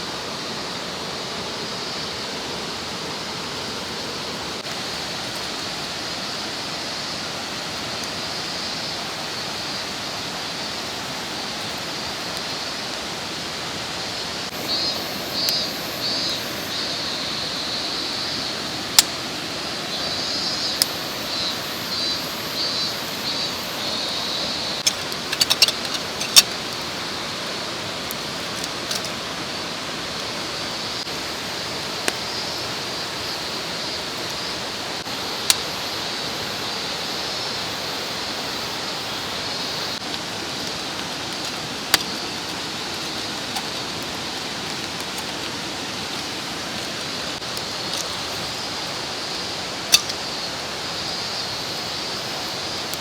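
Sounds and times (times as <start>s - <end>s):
insects buzzing: 0.0s - 53.0s
stream running: 0.0s - 53.0s.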